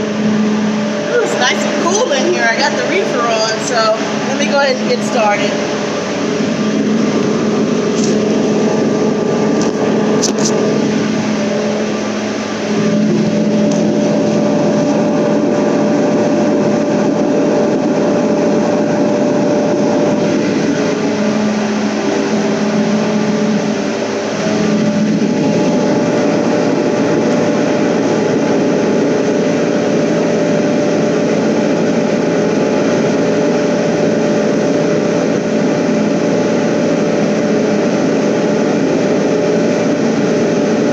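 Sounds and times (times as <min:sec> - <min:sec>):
refrigeration unit humming: 0:00.0 - 0:40.9.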